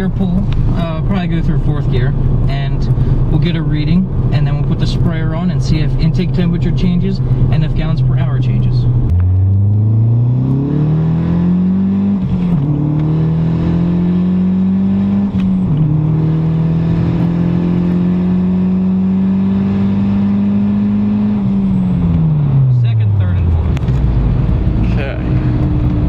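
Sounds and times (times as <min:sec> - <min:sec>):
car engine at full throttle: 0:00.0 - 0:26.0.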